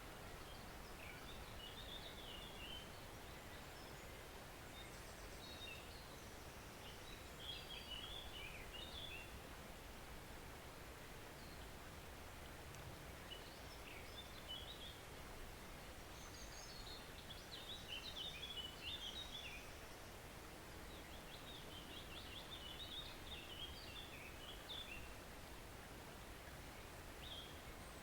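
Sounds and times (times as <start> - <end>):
songbird chirping: 0.0 - 9.4, 12.7 - 25.2, 26.4 - 28.0.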